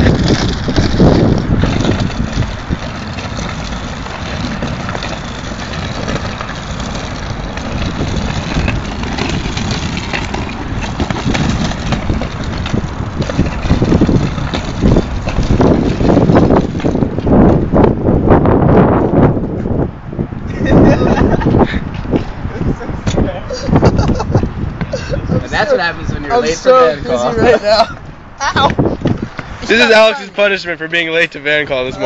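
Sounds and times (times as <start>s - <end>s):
casters rolling over asphalt: 0.0s - 32.0s.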